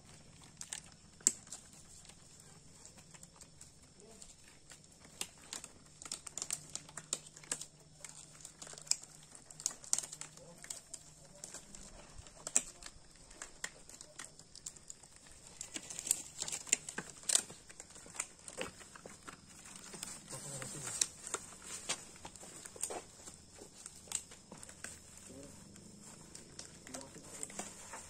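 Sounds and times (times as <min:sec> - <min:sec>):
latex gloves rustling: 0:00.0 - 0:28.0
paper crinkling: 0:00.0 - 0:28.0
sharp clicks and snaps: 0:00.1 - 0:28.0.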